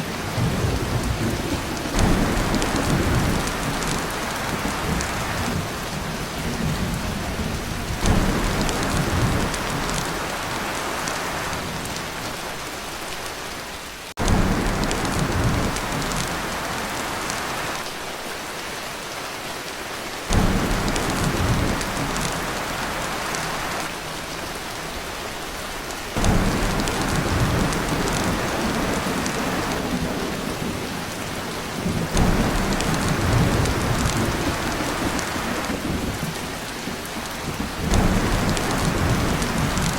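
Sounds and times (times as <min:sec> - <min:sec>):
deep thunder rumbles: 0:00.0 - 0:12.0, 0:14.2 - 0:17.7, 0:20.3 - 0:24.4, 0:26.2 - 0:39.9
torrential rain on a tin roof: 0:00.0 - 0:39.9.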